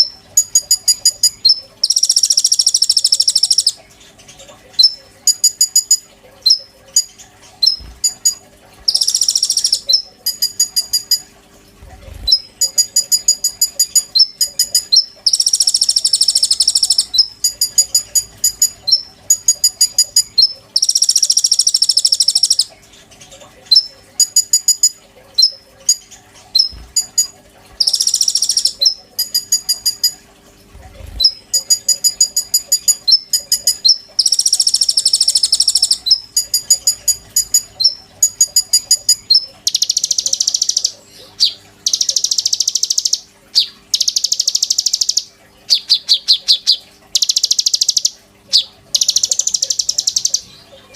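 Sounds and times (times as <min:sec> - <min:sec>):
songbird chirping and trilling: 0:00.0 - 0:11.3, 0:12.1 - 0:30.2, 0:31.0 - 0:50.9.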